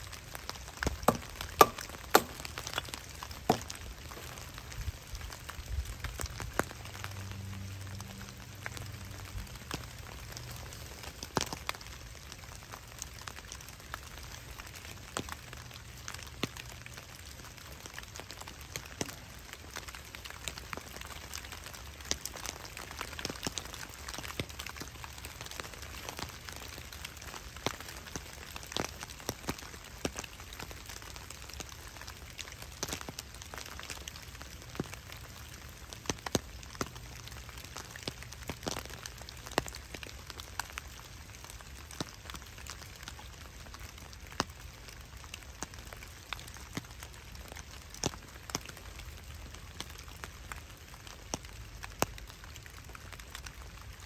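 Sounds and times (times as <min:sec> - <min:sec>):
rain falling in woodland: 0:00.0 - 0:54.0.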